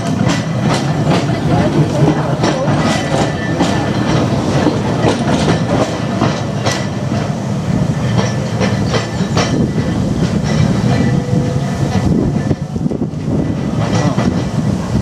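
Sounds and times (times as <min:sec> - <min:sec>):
tram wheels rumbling on rail: 0:00.0 - 0:15.0
wheels clicking over rail joints: 0:00.0 - 0:15.0.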